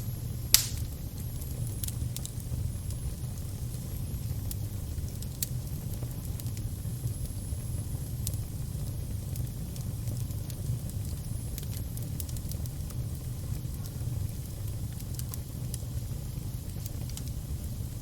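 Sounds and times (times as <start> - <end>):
fire burning with low roar: 0.0 - 18.0
fire crackles and pops: 0.0 - 18.0.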